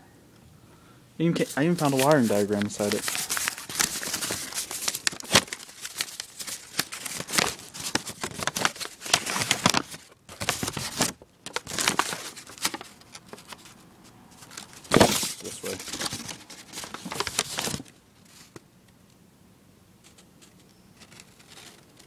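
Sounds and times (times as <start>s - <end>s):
paper crinkling and rustling: 1.4s - 18.6s, 20.0s - 22.0s.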